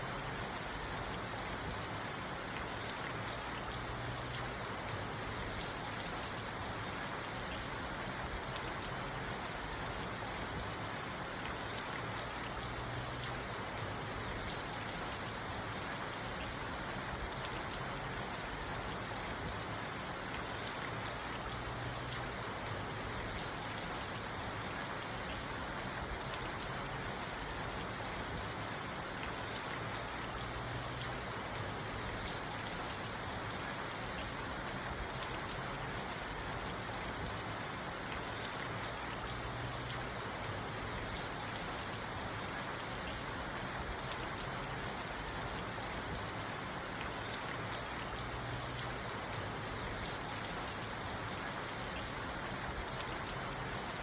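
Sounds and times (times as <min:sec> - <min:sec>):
rain on car roof and windows: 0:00.0 - 0:54.0.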